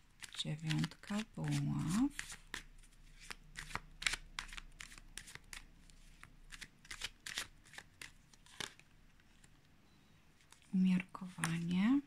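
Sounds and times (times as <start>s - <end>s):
cards being shuffled: 0.2s - 9.7s, 10.4s - 11.8s.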